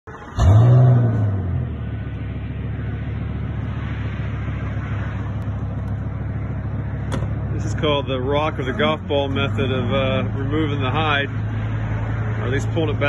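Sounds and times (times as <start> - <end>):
pickup truck engine revving and idling: 0.1 - 13.0.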